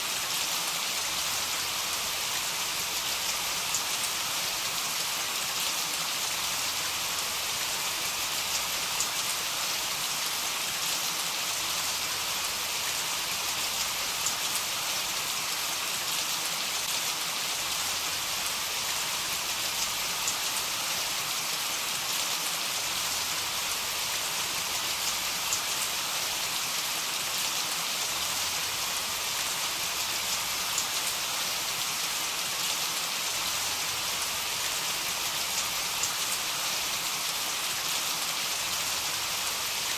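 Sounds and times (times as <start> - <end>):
heavy rain falling: 0.3 - 39.9.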